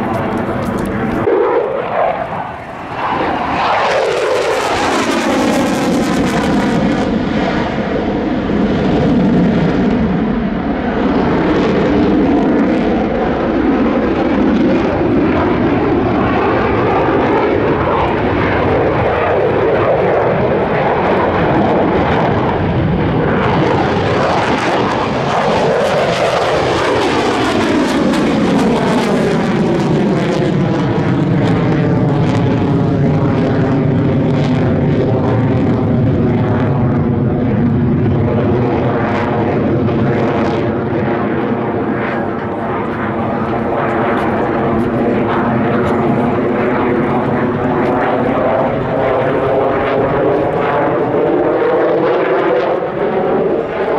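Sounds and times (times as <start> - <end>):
fighter jet roar: 0.0 - 53.9.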